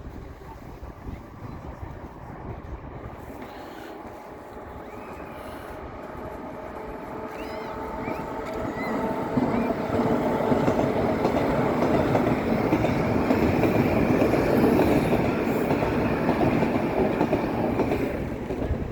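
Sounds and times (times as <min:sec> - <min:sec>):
train running on rails: 0:00.0 - 0:18.9.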